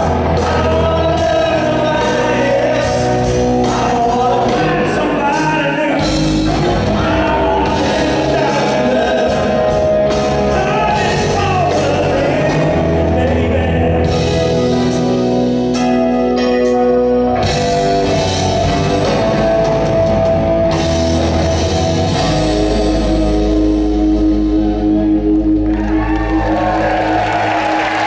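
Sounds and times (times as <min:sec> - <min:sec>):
bass guitar: 0:00.0 - 0:28.0
drum kit: 0:00.0 - 0:28.0
electric guitars: 0:00.0 - 0:28.0
keyboards: 0:00.0 - 0:28.0.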